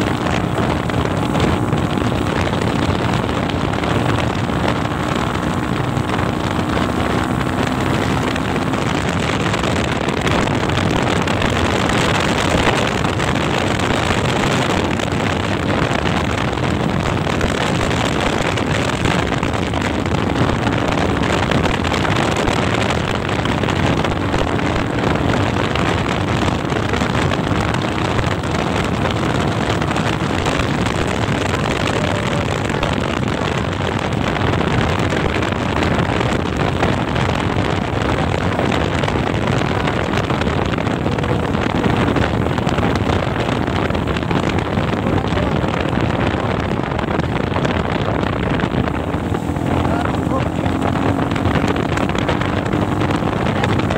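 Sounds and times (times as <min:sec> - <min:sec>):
dirt bike engine running: 0:00.0 - 0:53.9
wind rumbling on microphone: 0:00.0 - 0:53.9.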